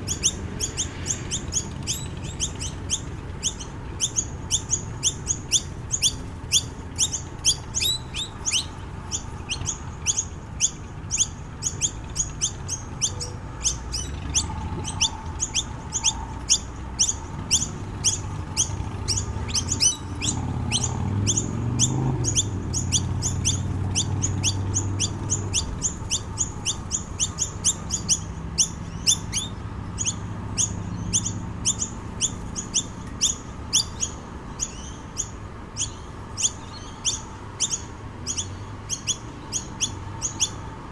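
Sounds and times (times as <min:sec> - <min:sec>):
birds chirping sharply: 0:00.0 - 0:40.9.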